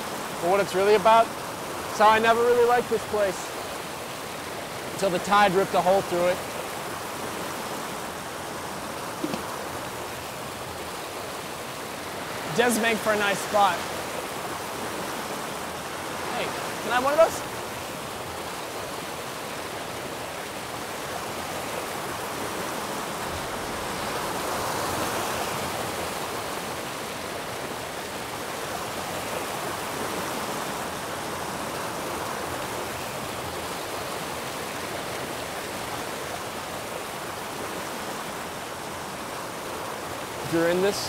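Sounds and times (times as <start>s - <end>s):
stream water flowing: 0.0s - 41.0s.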